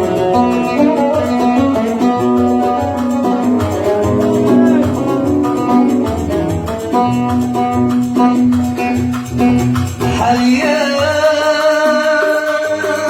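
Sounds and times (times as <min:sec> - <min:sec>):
oud plucked melody: 0:00.0 - 0:13.0.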